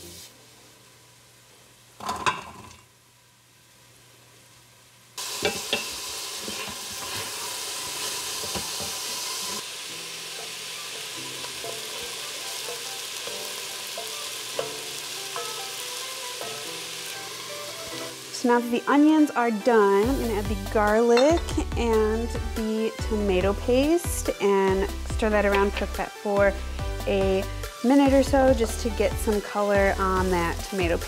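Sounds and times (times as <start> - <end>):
onion sizzling in oil: 0.0 - 2.3, 3.5 - 31.0.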